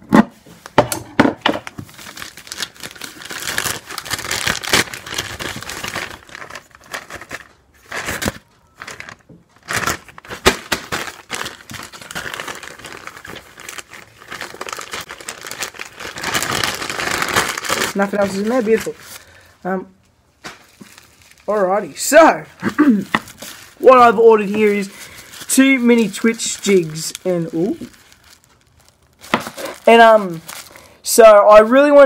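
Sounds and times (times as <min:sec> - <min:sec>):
plastic bag crinkling and tearing: 0:01.6 - 0:19.6, 0:20.4 - 0:32.0.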